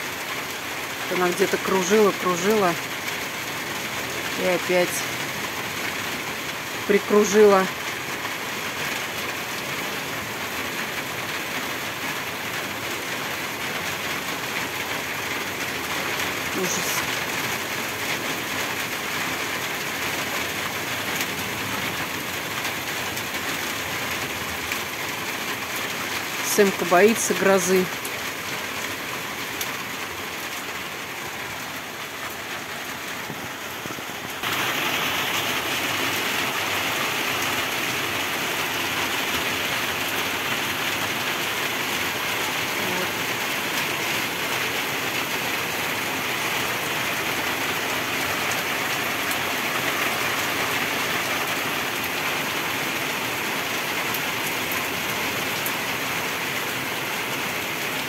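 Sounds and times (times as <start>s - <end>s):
rain pouring: 0.0s - 58.0s.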